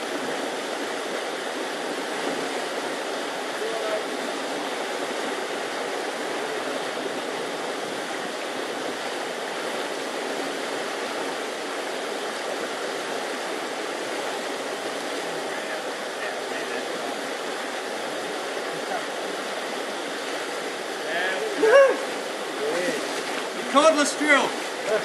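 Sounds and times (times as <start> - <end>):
flooded river rushing: 0.0 - 25.0.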